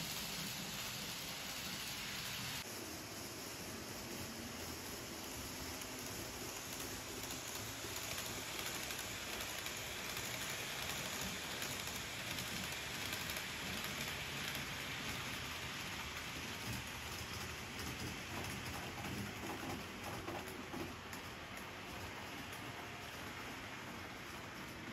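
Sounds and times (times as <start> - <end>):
model train wheels rattling on rails: 0.0 - 24.9.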